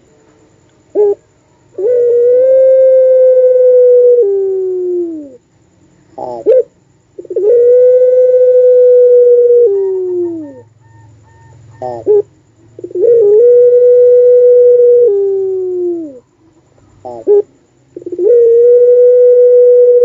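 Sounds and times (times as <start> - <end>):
dove cooing: 0.9 - 5.4, 6.1 - 20.0.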